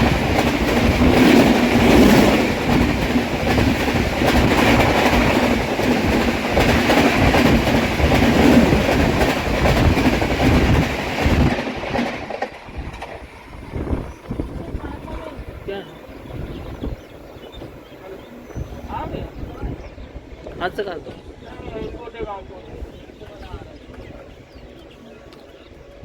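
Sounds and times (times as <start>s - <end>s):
coach running on rails: 0.0s - 26.0s
train passing with wind rush: 0.0s - 26.0s.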